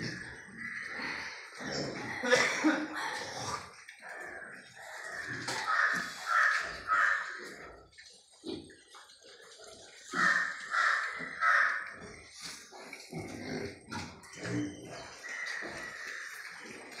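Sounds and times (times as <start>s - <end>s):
harsh pig calls: 0.0s - 2.5s, 3.1s - 17.0s
piglets grunting: 0.0s - 8.0s, 9.9s - 17.0s.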